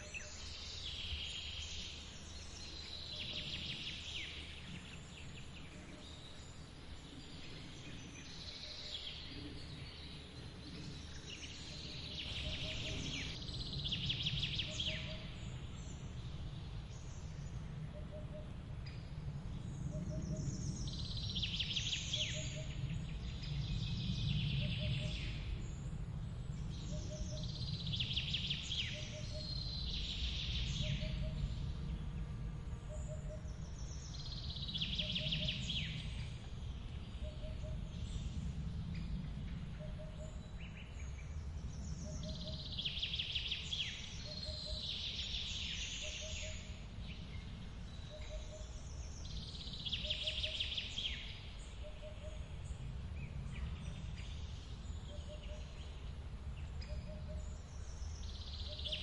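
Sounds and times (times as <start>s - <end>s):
bird song: 0.0s - 59.0s.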